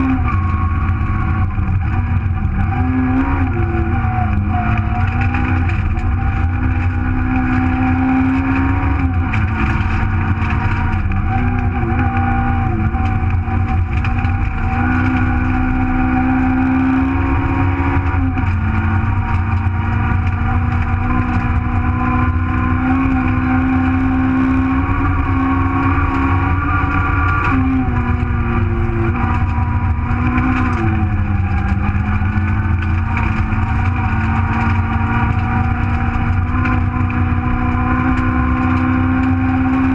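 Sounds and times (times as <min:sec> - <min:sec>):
rally car engine running hard: 0:00.0 - 0:39.9.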